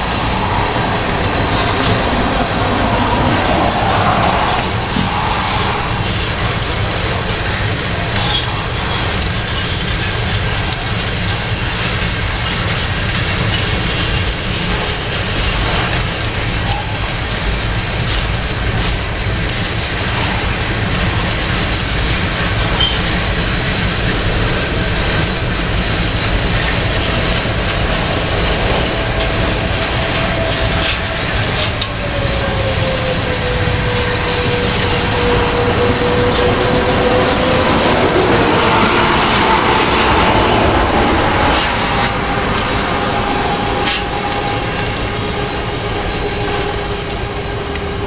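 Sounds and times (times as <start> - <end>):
freight train rumbling past: 0.0 - 48.0
wind on microphone: 0.0 - 48.0.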